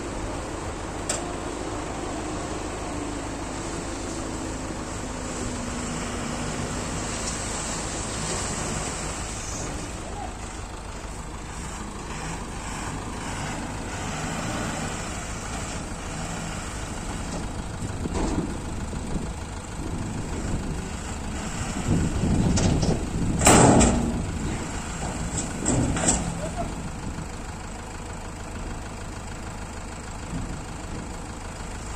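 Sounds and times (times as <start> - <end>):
diesel truck engine running: 0.0 - 31.9.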